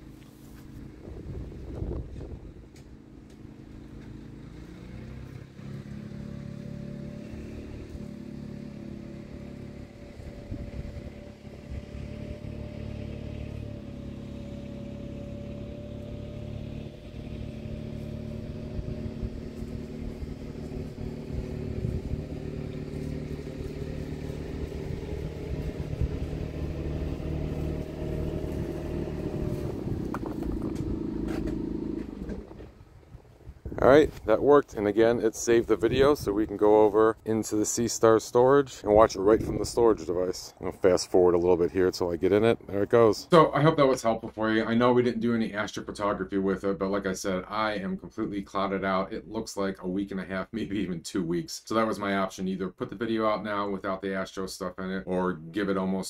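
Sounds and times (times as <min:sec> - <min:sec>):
utility vehicle engine running: 0:00.0 - 0:46.6.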